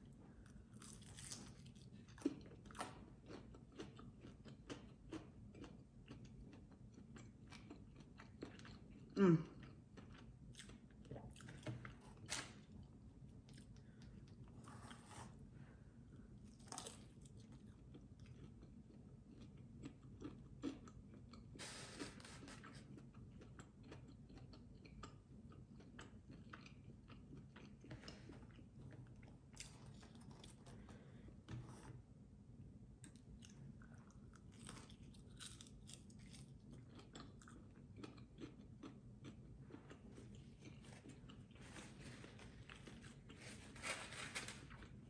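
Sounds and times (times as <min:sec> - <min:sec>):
chewing fried chicken crunches: 0:00.4 - 0:12.8, 0:16.4 - 0:31.1, 0:33.0 - 0:45.0.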